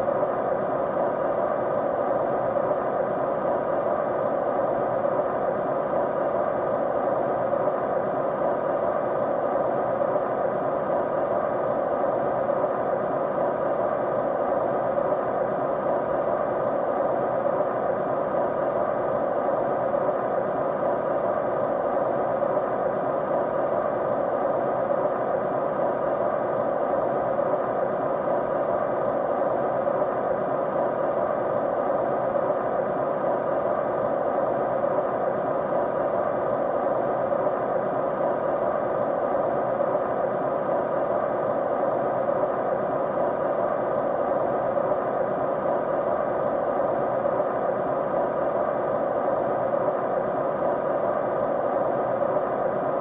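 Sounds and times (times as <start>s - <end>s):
faint steady tones: 0.0s - 53.0s
white noise hiss: 0.0s - 53.0s.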